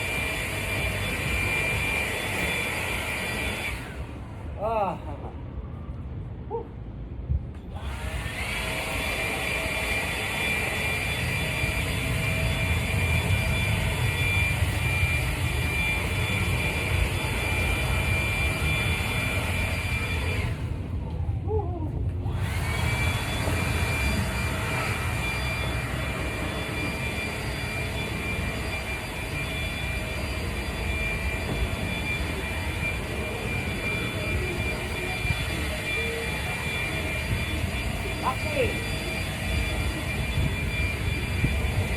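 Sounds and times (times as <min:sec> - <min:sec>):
lawn mower engine running: 0:00.0 - 0:04.2, 0:07.8 - 0:20.8, 0:22.3 - 0:41.9
high-pitched whine: 0:00.0 - 0:06.2, 0:07.7 - 0:41.9.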